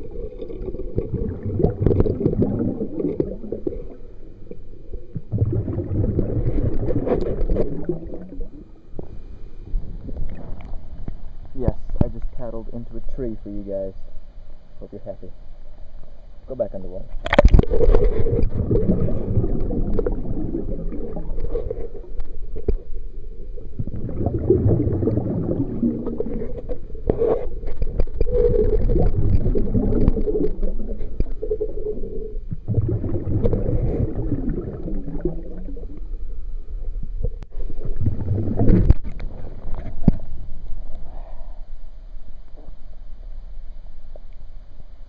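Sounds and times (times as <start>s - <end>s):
muffled underwater gurgling: 0.0s - 13.9s, 16.7s - 41.7s.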